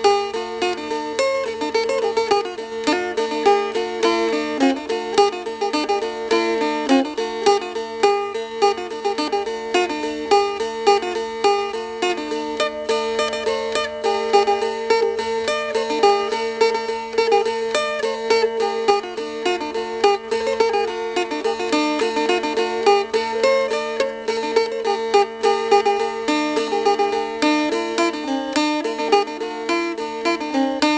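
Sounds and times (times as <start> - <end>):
plucked string instrument picking: 0.0 - 30.9.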